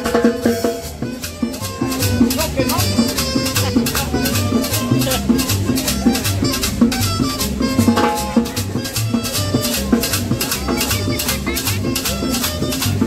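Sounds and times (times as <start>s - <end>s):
live latin dance music: 0.0s - 13.0s.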